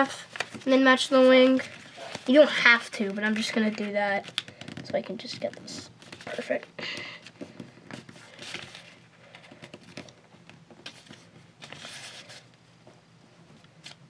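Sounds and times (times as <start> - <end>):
paper rustling as folded: 0.0 - 12.5.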